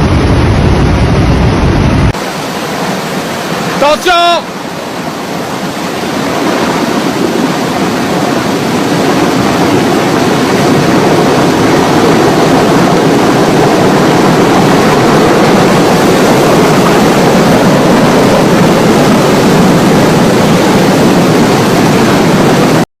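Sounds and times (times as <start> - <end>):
roar of rushing floodwater and rock: 0.0 - 22.9.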